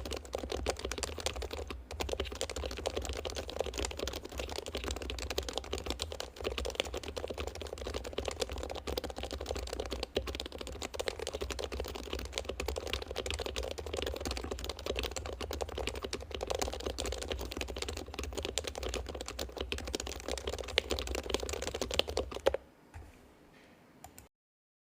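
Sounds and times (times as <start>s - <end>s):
typing on mechanical keyboard: 0.0s - 22.6s.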